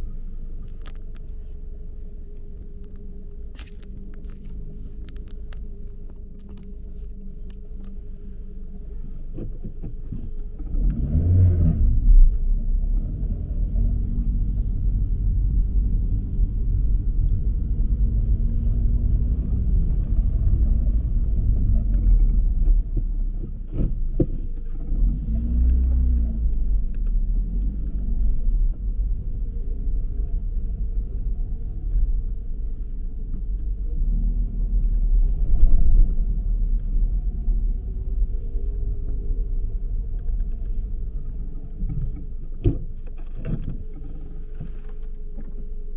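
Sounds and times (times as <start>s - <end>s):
car engine rumble: 0.0s - 45.9s.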